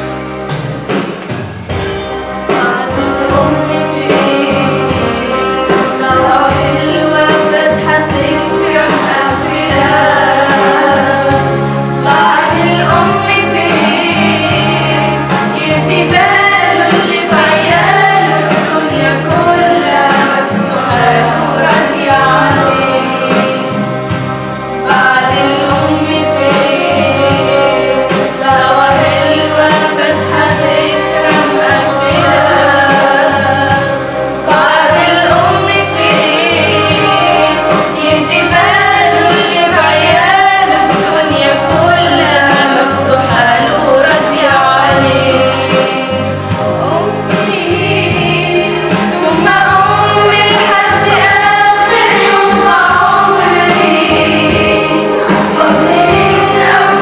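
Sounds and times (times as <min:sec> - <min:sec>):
instrumental backing track: 0:00.0 - 0:57.0
women singing together: 0:01.7 - 0:57.0.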